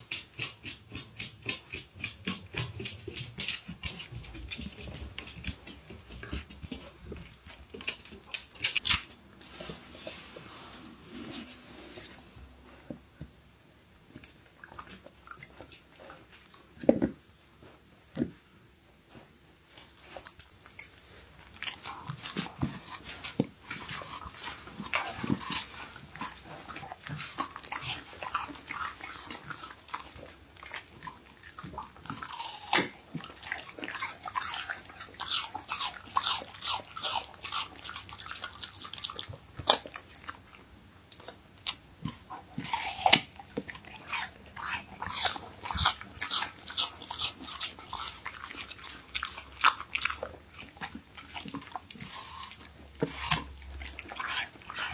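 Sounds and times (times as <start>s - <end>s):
dog crunching apple: 0.0s - 13.0s, 19.1s - 54.9s.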